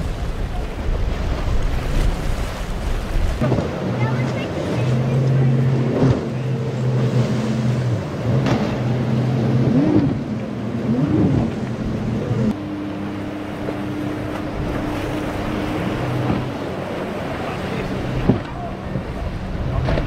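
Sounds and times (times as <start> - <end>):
outboard engines running hard: 0.0 - 20.0
water spray and waves: 0.0 - 20.0
wind: 0.0 - 20.0.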